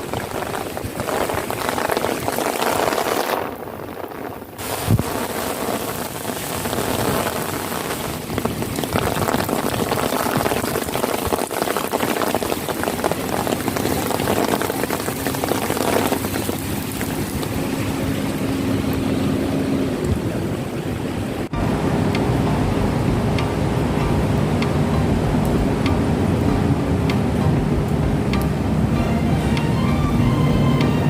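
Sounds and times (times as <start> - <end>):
rain pattering on hard surface: 0.0 - 30.9.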